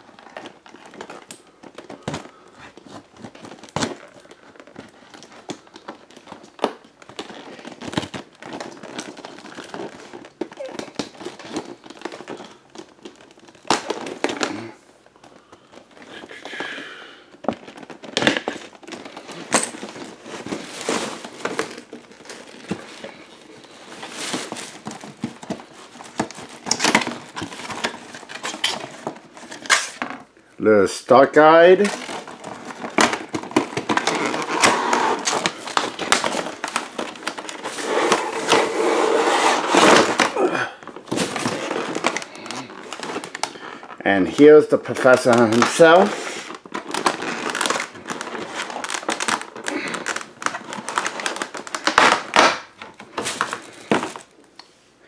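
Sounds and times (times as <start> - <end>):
paper packaging crinkling: 0.0 - 30.5, 31.2 - 54.8.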